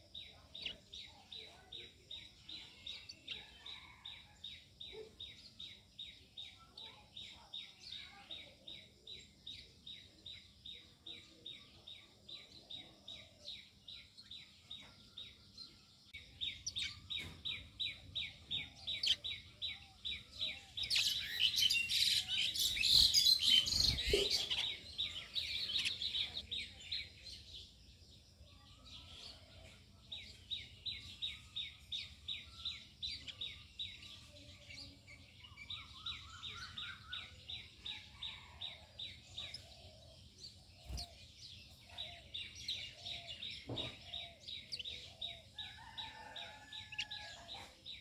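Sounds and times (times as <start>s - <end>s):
bird chirping: 0.0s - 48.0s
chorus of birds chirping: 0.0s - 48.0s.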